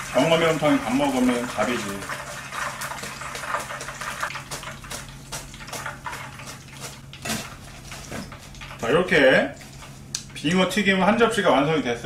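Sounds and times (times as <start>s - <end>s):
fish deep-frying in oil: 0.0s - 11.1s.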